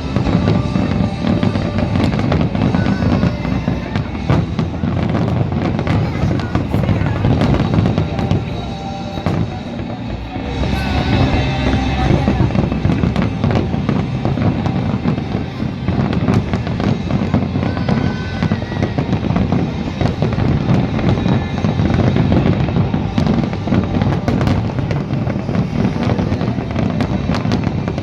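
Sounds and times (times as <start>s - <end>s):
fireworks bangs and crackling: 0.0s - 28.0s
low rumble: 0.0s - 28.0s
music playing: 0.0s - 28.0s.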